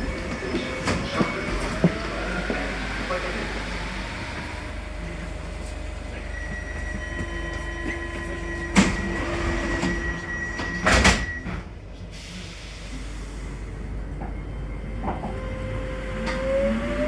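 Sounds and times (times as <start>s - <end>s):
train running hum: 0.0s - 17.0s.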